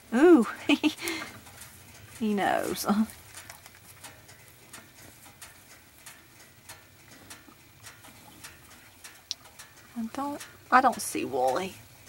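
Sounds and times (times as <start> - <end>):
faint regular ticking: 0.0 - 12.0.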